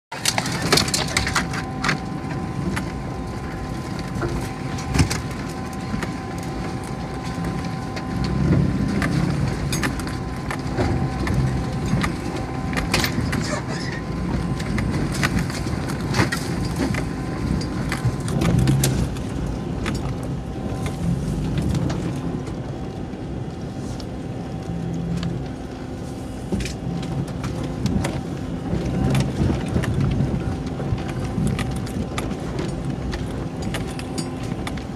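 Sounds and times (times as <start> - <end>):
engine and drivetrain rumble: 0.1 - 34.9.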